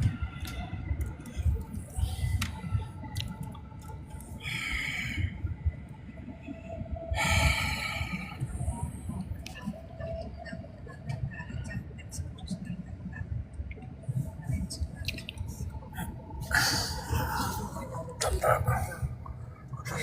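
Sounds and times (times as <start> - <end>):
train rumble from inside carriage: 0.0 - 20.0.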